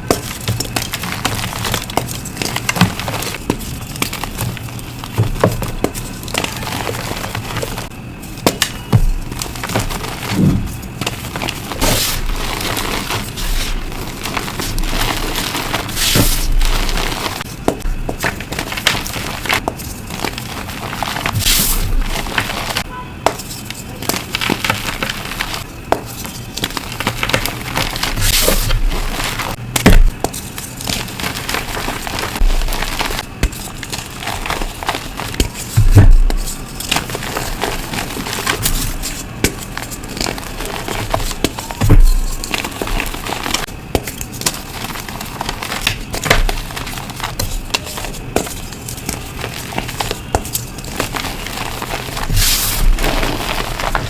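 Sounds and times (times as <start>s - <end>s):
chalk blocks crunching: 0.0s - 54.0s.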